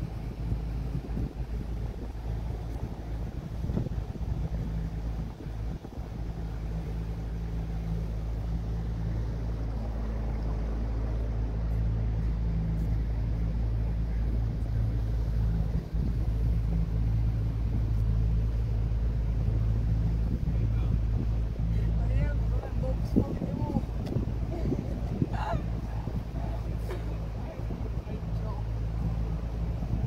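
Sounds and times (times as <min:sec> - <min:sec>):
motorboat engine droning: 0:00.0 - 0:30.0.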